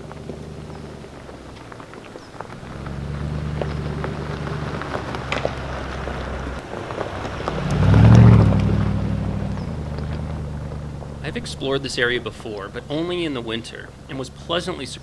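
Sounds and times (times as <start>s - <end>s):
car engine running: 0.0s - 15.0s
tyres crackling over gravel: 0.0s - 15.0s.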